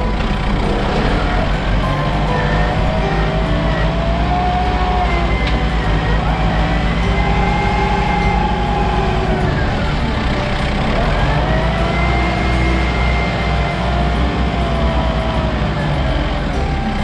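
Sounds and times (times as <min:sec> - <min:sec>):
engine whine: 0:00.0 - 0:17.0
heavy vehicle engine running: 0:00.0 - 0:17.0.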